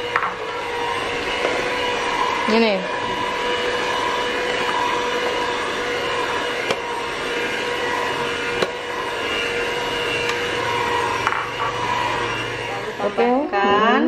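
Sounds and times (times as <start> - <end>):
electric hand mixer whining: 0.0 - 14.0.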